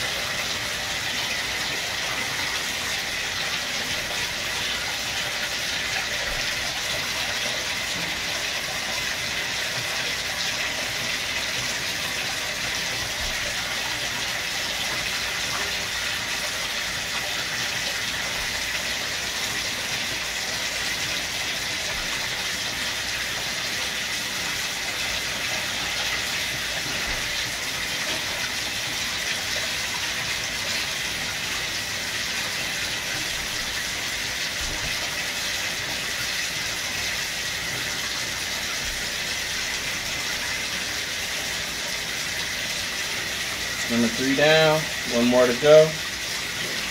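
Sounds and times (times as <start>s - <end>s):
tap water running into bathtub: 0.0s - 46.9s.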